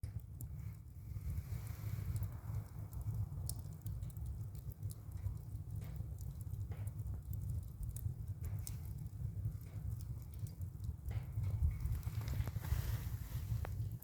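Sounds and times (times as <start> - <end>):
stove fire rumbling: 0.0 - 14.0
wood crackling and popping: 0.0 - 14.0.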